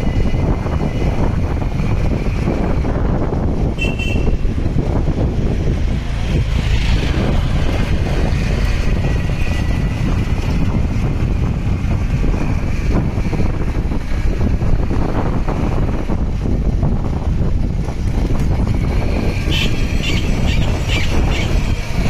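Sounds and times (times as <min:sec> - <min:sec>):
road noise: 0:00.0 - 0:22.0
wind rumble on microphone: 0:00.0 - 0:22.0.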